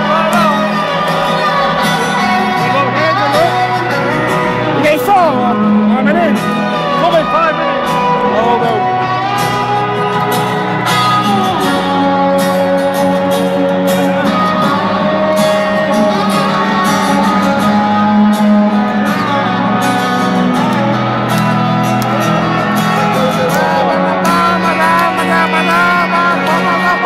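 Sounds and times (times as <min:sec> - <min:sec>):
live rock band playing: 0:00.0 - 0:27.0
person singing: 0:00.0 - 0:27.0.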